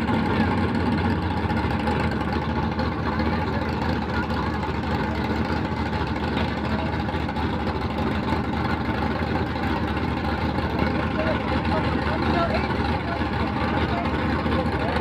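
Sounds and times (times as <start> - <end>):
truck engines idling: 0.0 - 15.0.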